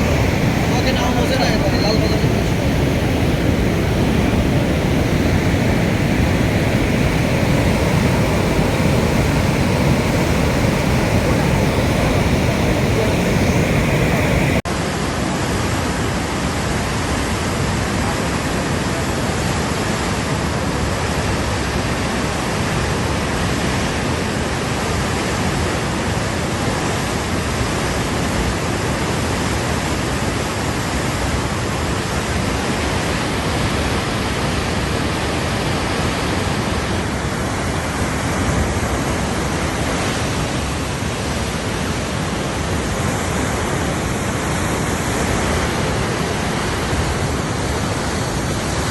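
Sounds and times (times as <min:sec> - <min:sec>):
rush of flooded river water: 0:00.0 - 0:48.9.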